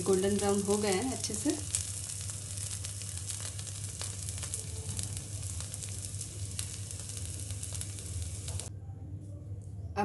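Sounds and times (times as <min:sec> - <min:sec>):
cheese sizzling in oil: 0:00.0 - 0:08.7
fine crackles: 0:00.0 - 0:08.7
steady low hum: 0:00.0 - 0:10.0.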